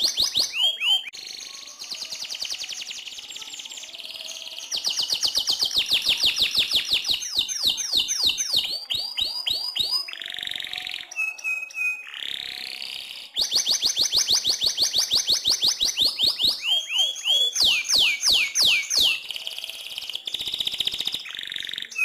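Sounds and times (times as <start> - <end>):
canary singing rolling trills: 0.0 - 22.0.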